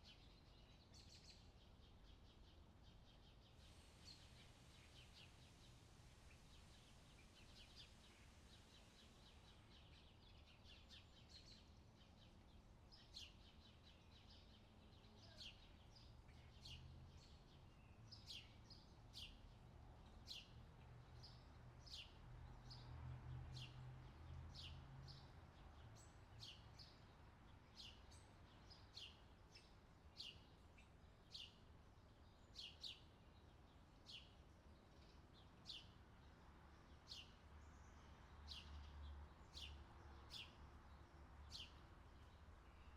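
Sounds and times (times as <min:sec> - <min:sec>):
small birds twittering: 0:00.0 - 0:22.9, 0:23.5 - 0:42.9.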